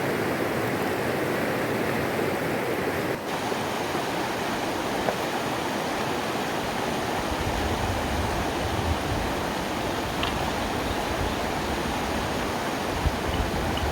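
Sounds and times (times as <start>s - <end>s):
river water flowing: 0.0s - 13.9s.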